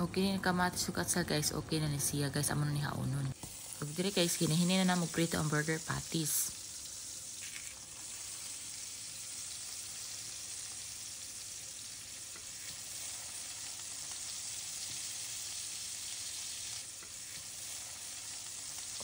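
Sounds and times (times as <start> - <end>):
burger patties sizzling in oil: 3.3 - 19.0.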